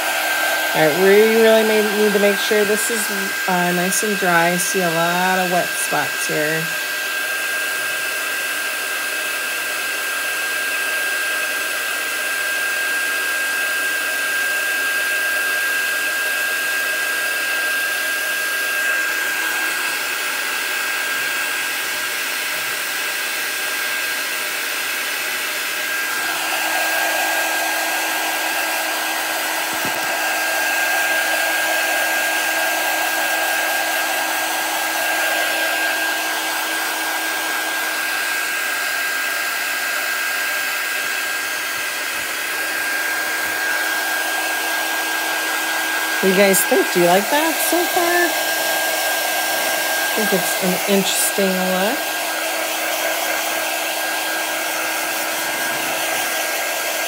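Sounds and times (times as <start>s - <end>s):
heat gun blowing with whine: 0.0s - 57.0s.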